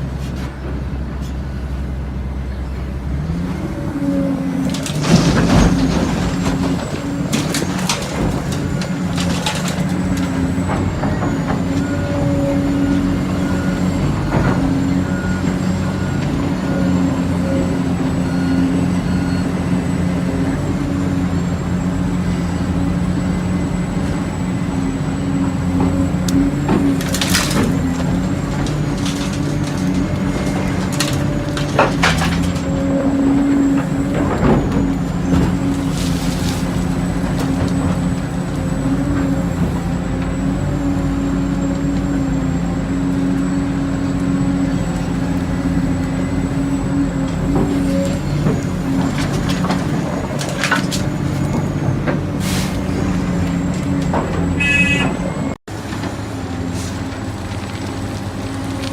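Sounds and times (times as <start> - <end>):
heavy machinery diesel engine running: 0.0 - 58.9.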